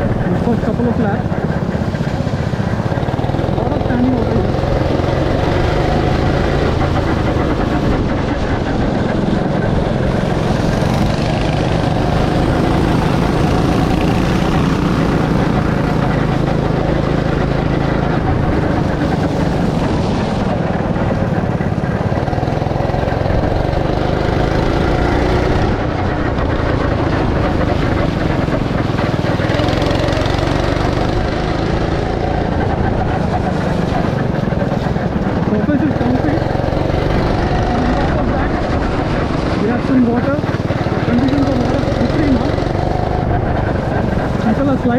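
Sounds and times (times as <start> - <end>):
go-kart engine running: 0.0 - 44.9.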